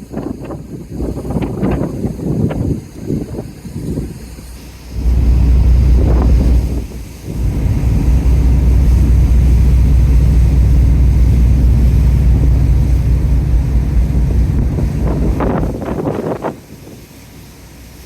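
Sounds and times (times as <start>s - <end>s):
wind buffeting microphone: 0.0s - 17.2s.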